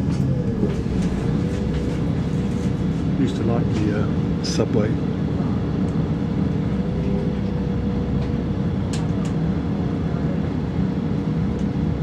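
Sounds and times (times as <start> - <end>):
constant hum: 0.0 - 12.0
diesel train rumble: 0.0 - 12.0.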